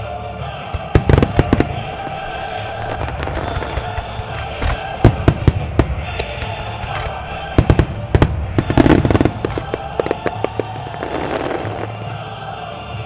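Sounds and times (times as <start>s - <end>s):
fireworks bursting bangs: 0.6s - 12.1s.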